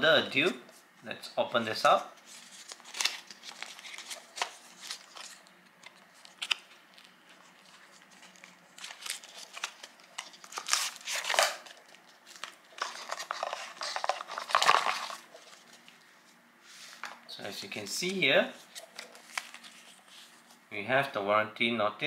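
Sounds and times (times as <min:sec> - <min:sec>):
paper booklet crinkling: 0:01.9 - 0:17.0, 0:18.0 - 0:20.6.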